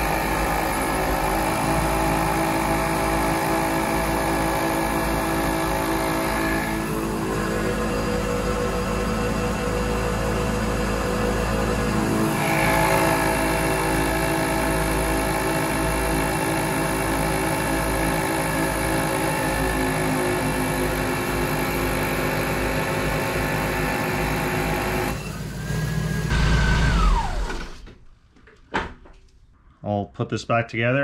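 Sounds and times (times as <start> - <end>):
air compressor running: 0.0 - 28.0.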